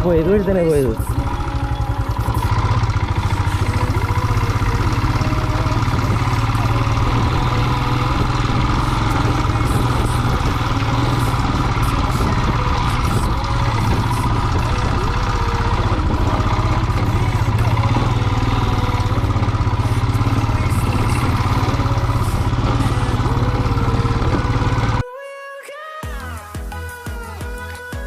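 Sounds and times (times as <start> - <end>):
motorcycle engine thumping at low revs: 1.0 - 25.0.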